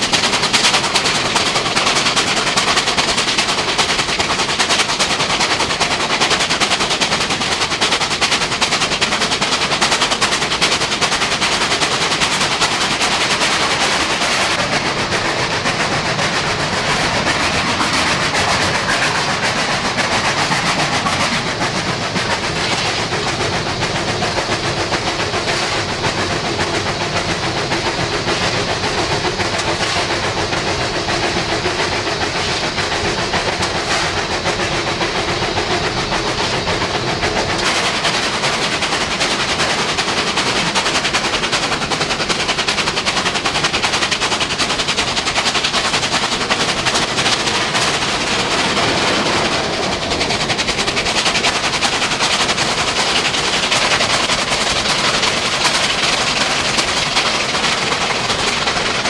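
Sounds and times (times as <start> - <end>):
steam locomotive running at speed: 0.0 - 59.0.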